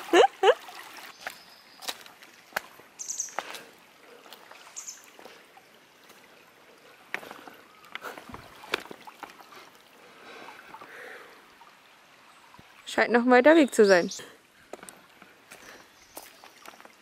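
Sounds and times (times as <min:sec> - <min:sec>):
footsteps splashing in stream: 0:00.0 - 0:12.8, 0:14.4 - 0:17.0
water trickling: 0:00.0 - 0:17.0.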